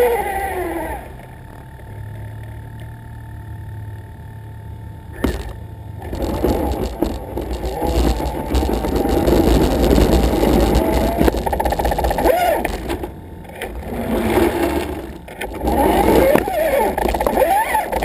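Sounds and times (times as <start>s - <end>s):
toy truck motor rumble: 0.0s - 2.5s, 5.1s - 18.0s.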